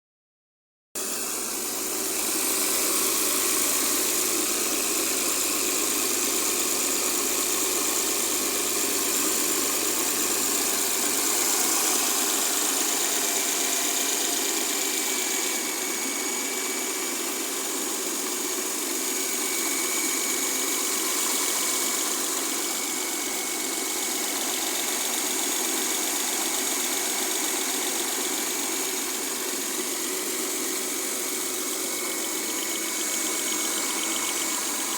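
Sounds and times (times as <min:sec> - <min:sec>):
car engine idling: 0:01.1 - 0:34.9.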